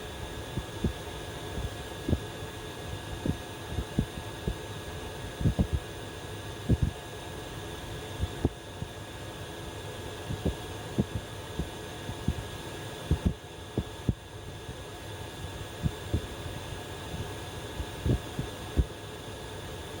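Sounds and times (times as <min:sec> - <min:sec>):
heater fan hum: 0:00.0 - 0:20.0.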